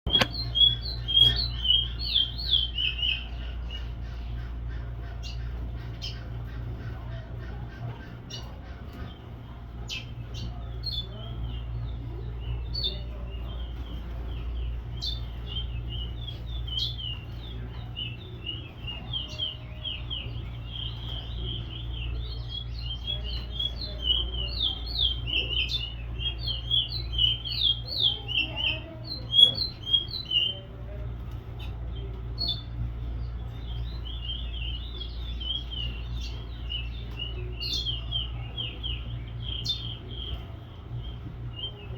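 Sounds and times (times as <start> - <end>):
steady low hum: 0.0 - 41.9
small birds chirping: 0.1 - 41.9.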